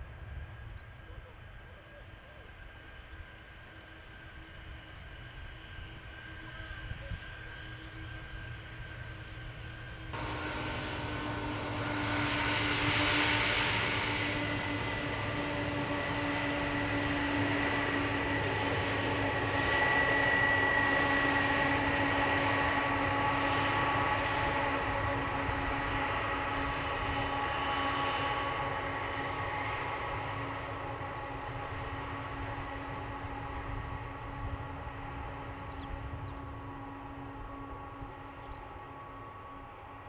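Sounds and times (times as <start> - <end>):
jet engines running with whine: 0.0 - 40.0.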